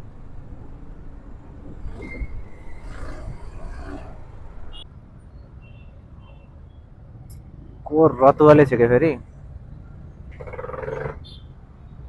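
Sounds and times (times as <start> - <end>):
faint traffic: 0.0 - 12.0.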